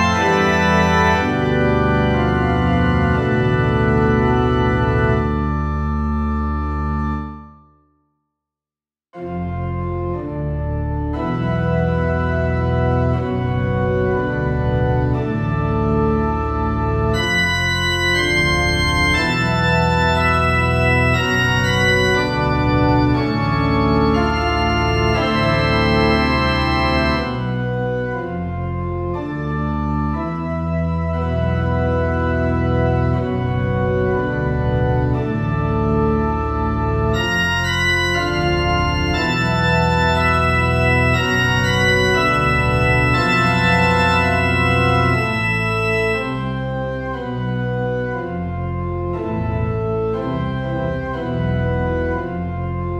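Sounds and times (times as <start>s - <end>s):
organ playing held chords: 0.0s - 7.5s, 9.2s - 52.9s.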